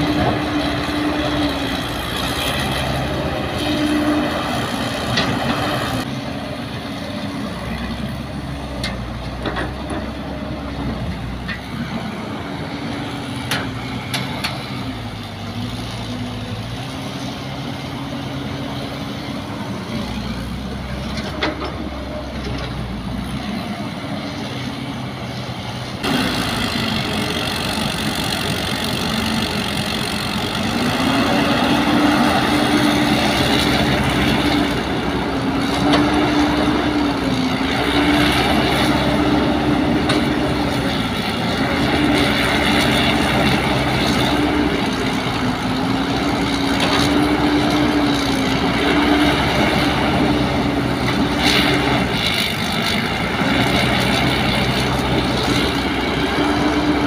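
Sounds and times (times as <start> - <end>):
excavator diesel engine under load: 0.0 - 57.0
truck diesel engines running: 0.0 - 57.0.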